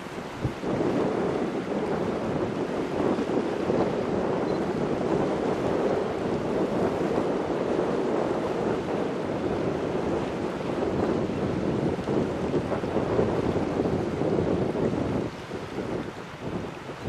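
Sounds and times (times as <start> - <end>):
choppy river water: 0.0 - 17.0
wind on microphone: 0.0 - 17.0.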